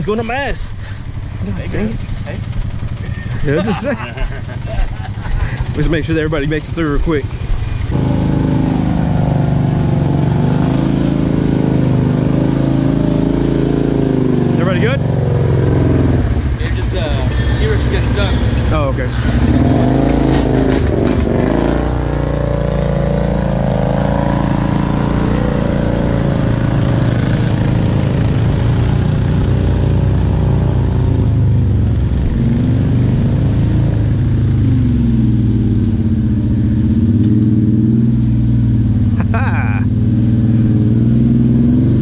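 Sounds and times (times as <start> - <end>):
atv engines revving: 0.0 - 42.0.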